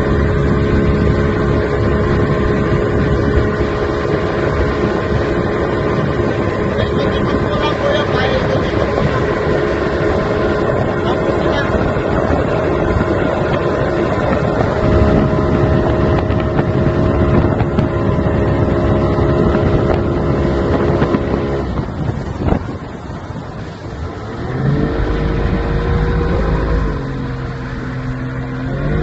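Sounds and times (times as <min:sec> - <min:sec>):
motorboat engine running: 0:00.0 - 0:29.0
wind buffeting microphone: 0:00.0 - 0:29.0.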